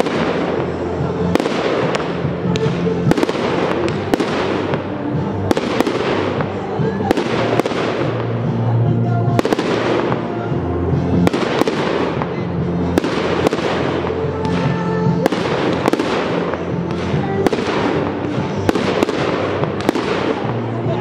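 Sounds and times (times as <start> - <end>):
music with steady bass: 0.0 - 21.0.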